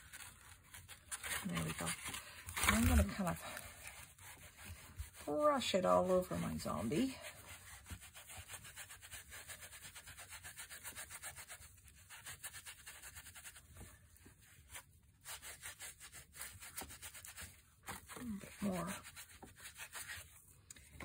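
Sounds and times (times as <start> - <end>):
sponge rubbing strokes: 0.0 - 20.9.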